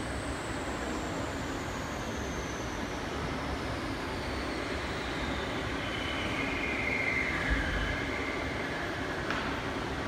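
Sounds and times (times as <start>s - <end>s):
thin motor whine: 0.0s - 10.0s.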